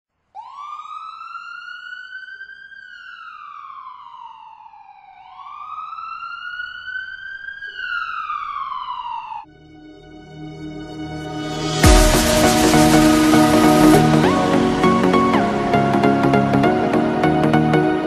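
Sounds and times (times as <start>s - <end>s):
siren wailing: 0.4s - 18.0s.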